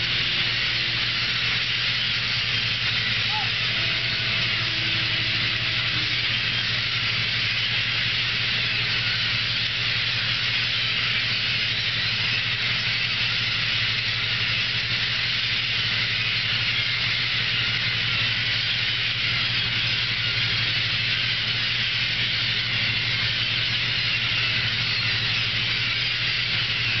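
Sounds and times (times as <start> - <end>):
boat engine humming: 0.0 - 27.0
dense constant hiss: 0.0 - 27.0.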